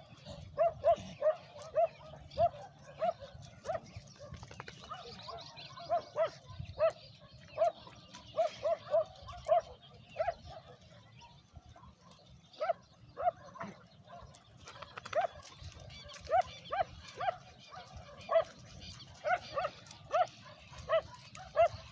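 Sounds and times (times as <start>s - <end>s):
dog barking: 0.3s - 7.8s, 8.4s - 14.4s, 15.1s - 18.6s, 19.2s - 21.8s.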